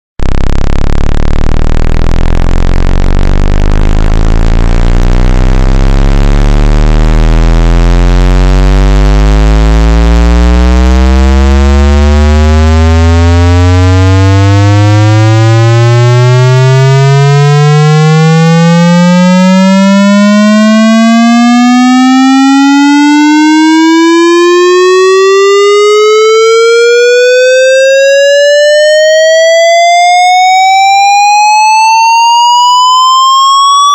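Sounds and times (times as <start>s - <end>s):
synthesized buzzing tone rising: 0.2s - 33.9s.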